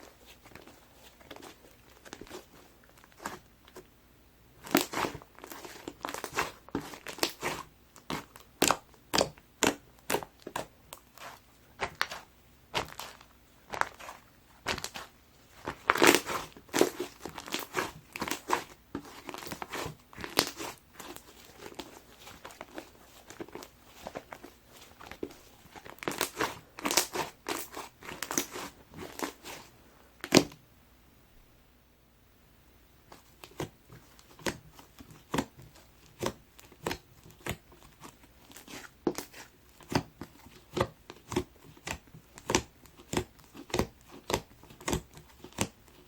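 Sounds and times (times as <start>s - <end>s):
slime crackling and popping: 4.6s - 30.5s, 33.2s - 46.0s.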